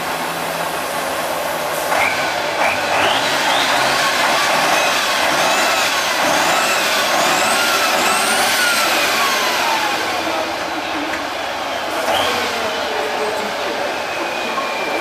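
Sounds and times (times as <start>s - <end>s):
truck diesel engine revving: 0.0s - 13.4s
high engine whine: 0.0s - 15.0s.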